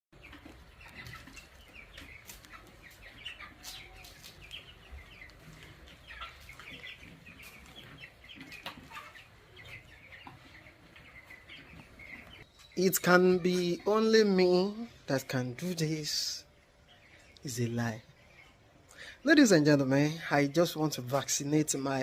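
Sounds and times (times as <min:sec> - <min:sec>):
chicks peeping: 0:00.2 - 0:22.0.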